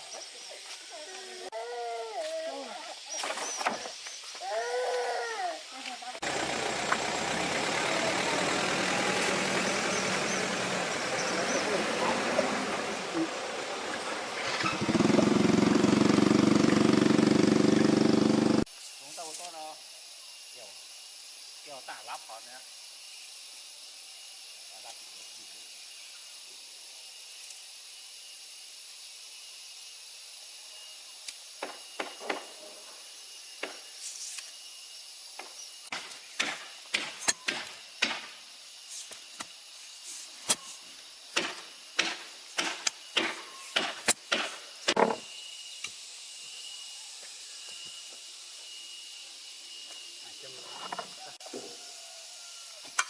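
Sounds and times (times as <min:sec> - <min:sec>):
steady high hiss: 0:00.0 - 0:14.8, 0:18.6 - 0:53.0.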